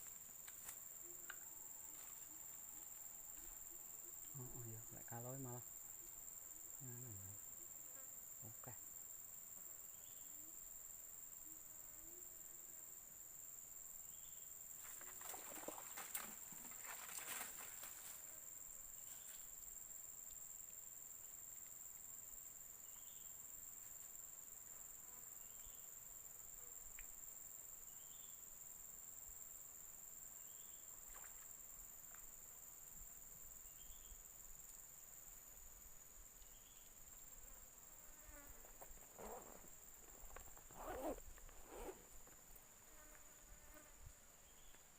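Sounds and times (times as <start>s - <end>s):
insects buzzing drone: 0.0s - 44.9s.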